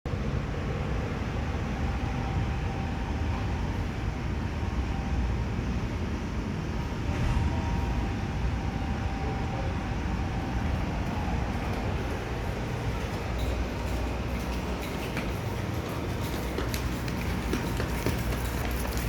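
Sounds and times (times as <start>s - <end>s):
faint steady whine: 0.1s - 19.0s
vehicle engines rumbling: 0.1s - 19.0s.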